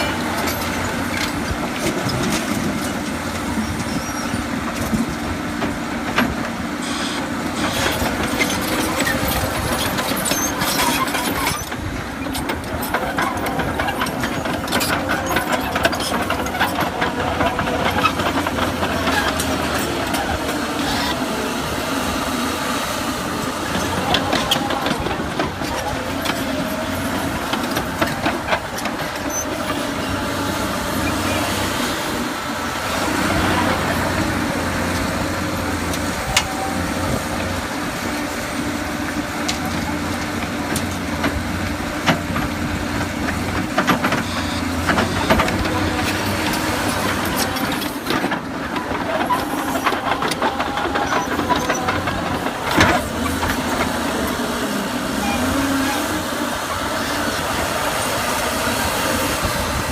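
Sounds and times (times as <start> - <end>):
diesel construction machine running: 0.0 - 59.9.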